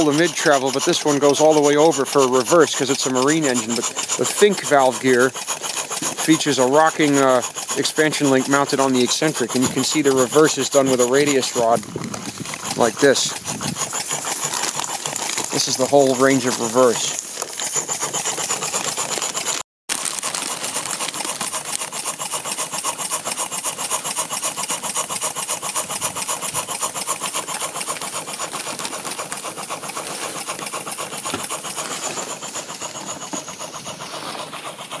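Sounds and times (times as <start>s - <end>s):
steam engine chuffing: 0.0s - 35.0s.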